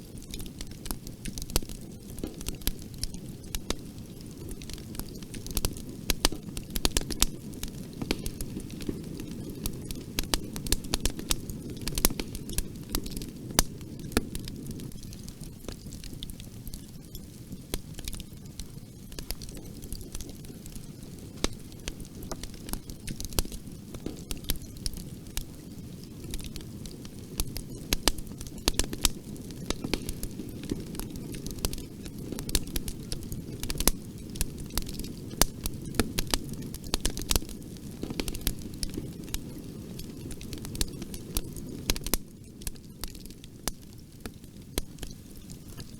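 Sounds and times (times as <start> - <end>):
burning wood crackling and popping: 0.0 - 45.9
low rumble of flames: 0.0 - 45.9.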